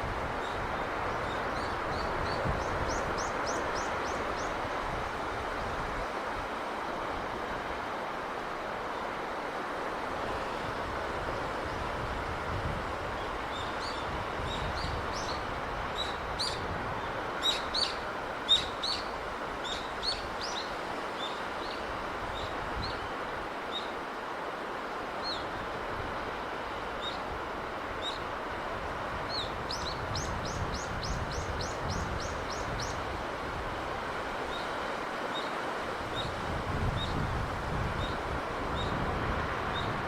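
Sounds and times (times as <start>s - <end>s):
sea breeze: 0.0s - 40.0s.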